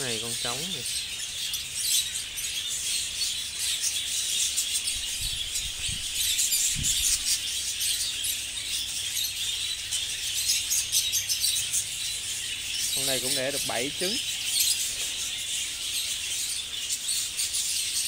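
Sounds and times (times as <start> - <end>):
budgerigars chattering and chirping: 0.0 - 18.0.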